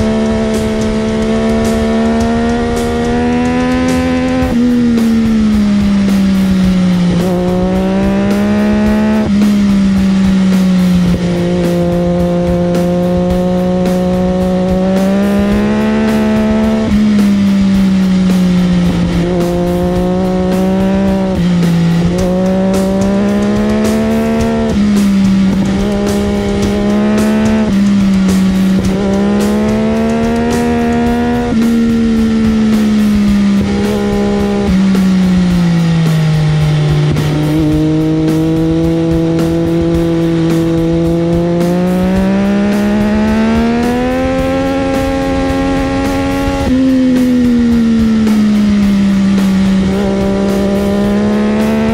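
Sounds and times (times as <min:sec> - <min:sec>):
motorcycle engine at high revs: 0:00.0 - 0:51.9.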